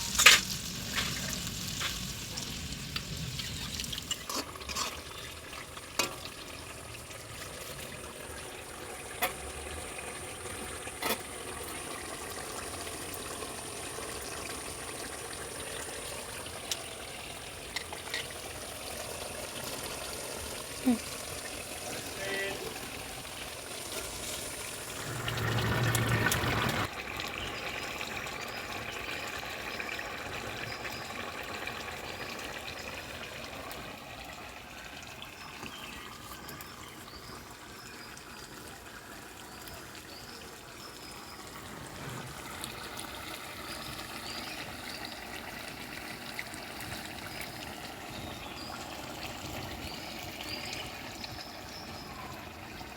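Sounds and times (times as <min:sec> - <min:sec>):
curry bubbling in a pan: 0:00.0 - 0:52.9.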